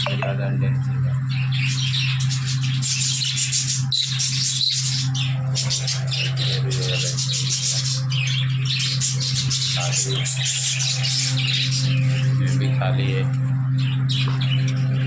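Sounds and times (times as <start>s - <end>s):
budgerigars chattering and squawking: 0.0s - 15.0s
steady low hum: 0.0s - 15.0s.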